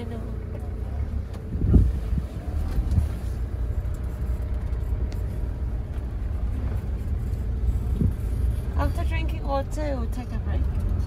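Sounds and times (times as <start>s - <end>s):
van driving on dirt track: 0.0s - 11.0s.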